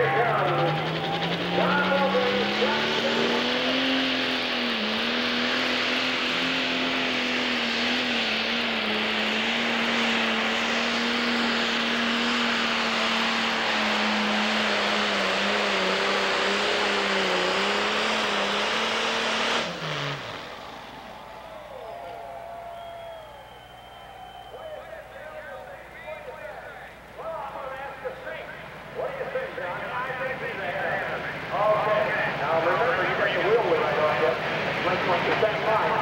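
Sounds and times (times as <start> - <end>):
tractor diesel engine roaring: 0.0 - 36.0.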